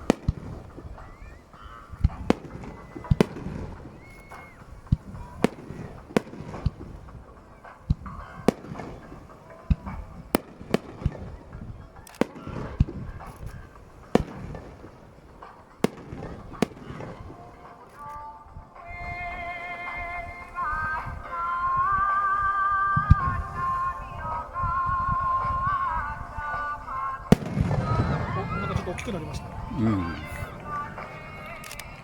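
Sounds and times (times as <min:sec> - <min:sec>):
fireworks bursting bangs: 0:00.0 - 0:21.9, 0:23.0 - 0:32.0.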